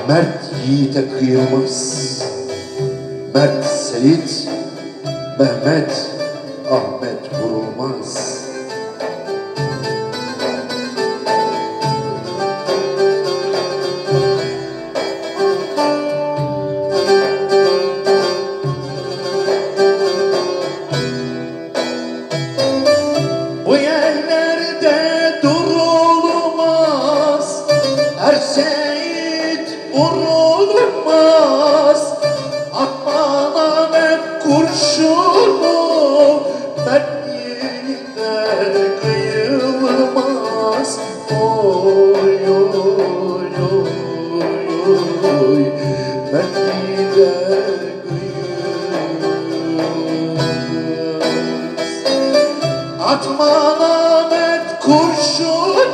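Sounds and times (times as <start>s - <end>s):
folk song instrumental backing: 0.0s - 55.9s.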